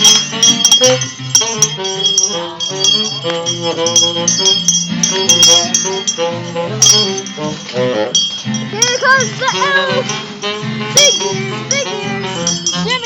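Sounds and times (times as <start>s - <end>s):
bell ringing: 0.0s - 13.0s
carol played on instruments: 0.0s - 13.0s.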